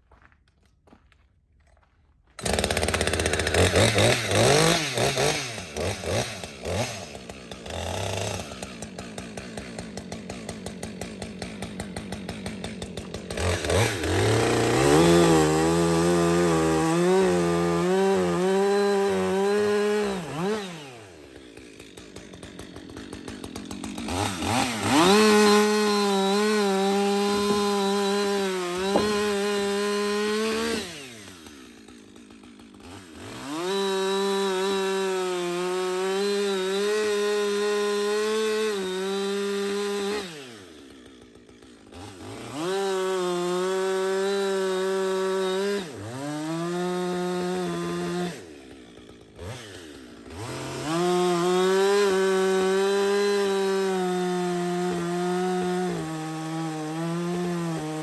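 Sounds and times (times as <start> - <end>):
two-stroke chainsaw revving: 2.4 - 58.0.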